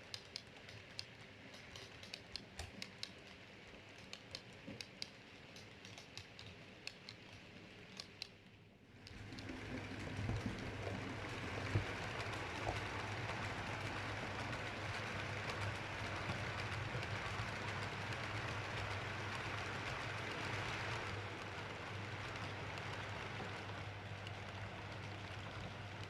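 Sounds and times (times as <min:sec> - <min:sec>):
faint clicks at rail joints: 0:00.0 - 0:26.0
model train rolling on track: 0:00.0 - 0:26.0.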